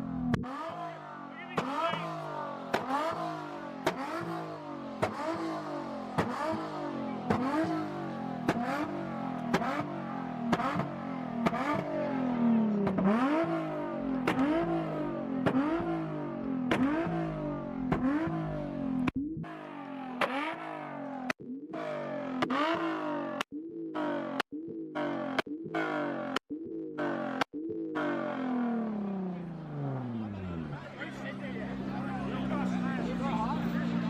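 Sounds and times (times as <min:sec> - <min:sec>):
car engine revving hard: 0:00.0 - 0:26.4, 0:27.0 - 0:34.0.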